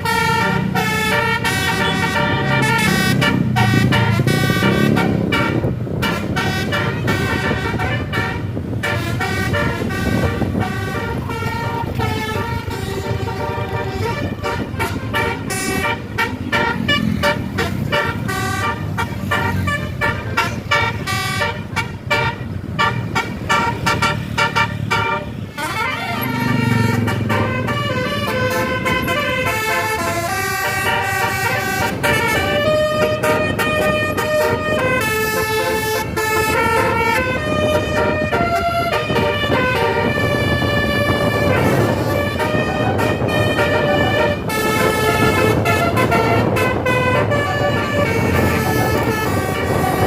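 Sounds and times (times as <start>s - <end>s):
tuned air horns playing melody: 0.0s - 50.0s.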